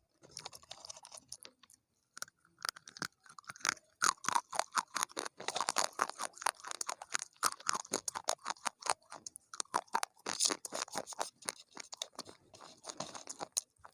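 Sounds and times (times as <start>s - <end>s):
person chewing crunchy food: 0.2s - 13.9s.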